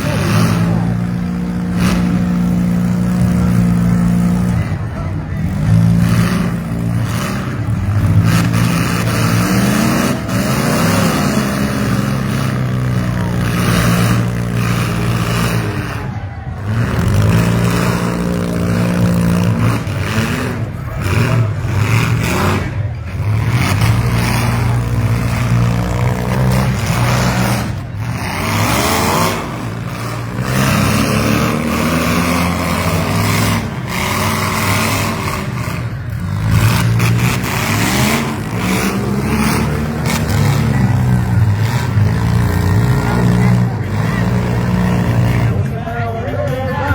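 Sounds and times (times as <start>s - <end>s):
vehicle engines revving: 0.0s - 46.9s
vehicles ramming: 0.0s - 46.9s.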